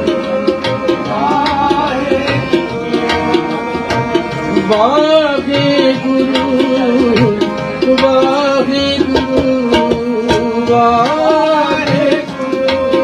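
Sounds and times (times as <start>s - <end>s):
harmonium: 0.0s - 13.0s
tabla strokes: 0.0s - 13.0s.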